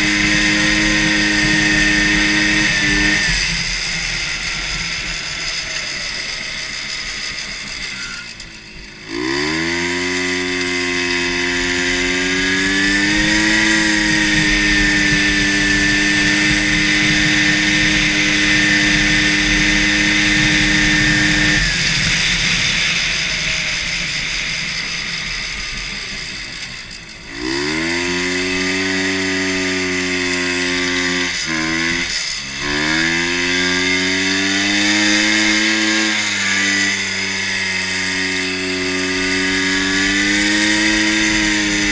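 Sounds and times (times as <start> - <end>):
two-stroke engine revving hard: 0.0 - 41.9.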